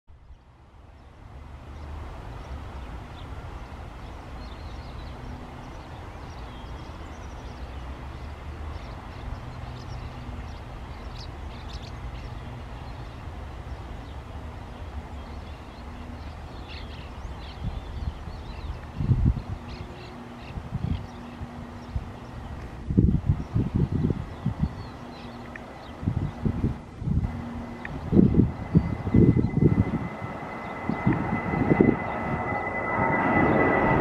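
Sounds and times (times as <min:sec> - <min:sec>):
distant jet engines rumbling: 0:00.4 - 0:34.0.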